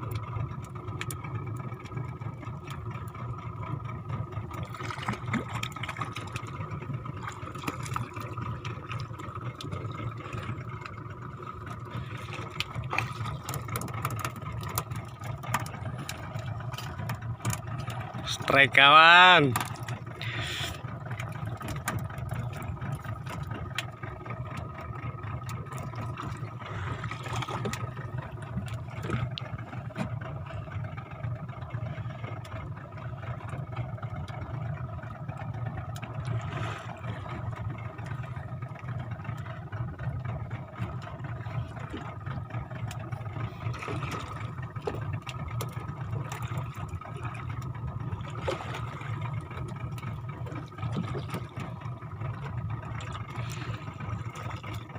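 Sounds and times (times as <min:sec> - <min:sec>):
boat engine humming: 0:00.0 - 0:54.9.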